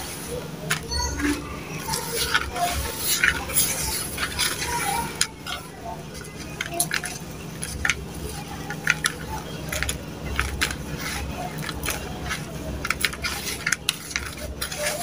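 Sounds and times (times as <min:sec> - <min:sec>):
hands crumbling gritty sand mix: 0:00.0 - 0:15.0.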